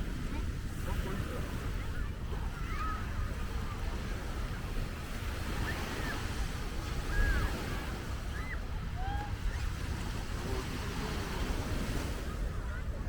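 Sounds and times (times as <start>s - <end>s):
sea waves washing onto beach: 0.0s - 13.0s
wind rumbling on microphone: 0.0s - 13.0s.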